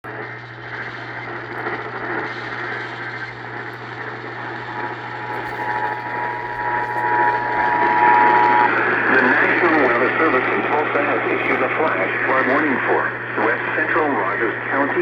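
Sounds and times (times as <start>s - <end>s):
radio static hiss: 0.0s - 15.0s
steady low hum: 0.0s - 15.0s.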